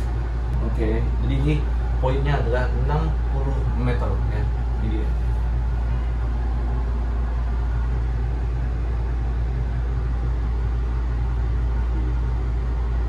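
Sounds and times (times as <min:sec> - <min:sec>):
low rumble and hum in gondola: 0:00.0 - 0:13.0.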